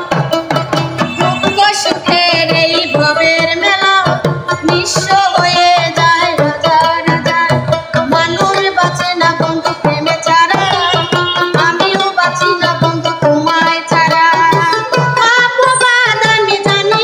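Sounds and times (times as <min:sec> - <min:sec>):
hand drum beat: 0:00.0 - 0:17.0
woman singing folk song: 0:01.2 - 0:17.0.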